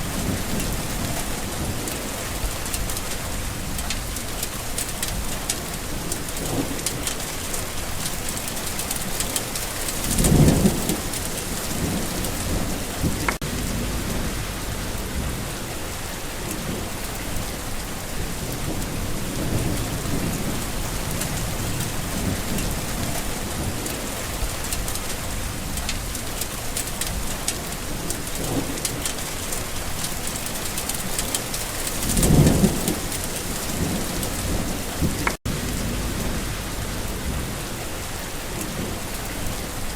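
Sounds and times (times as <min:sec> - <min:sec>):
low thunder rumbles: 0:00.0 - 0:29.1, 0:31.0 - 0:39.9
heavy rainfall: 0:00.0 - 0:39.9.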